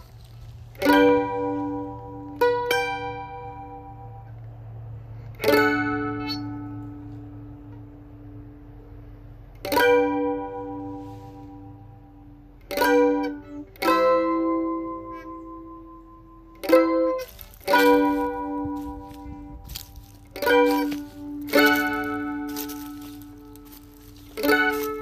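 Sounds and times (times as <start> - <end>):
mandolin chords ringing: 0.0 - 25.0.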